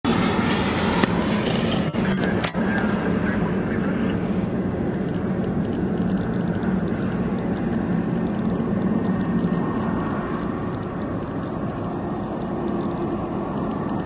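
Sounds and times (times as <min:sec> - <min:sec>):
aircraft engines rumbling: 0:00.0 - 0:14.0
faint high whine: 0:00.1 - 0:14.0.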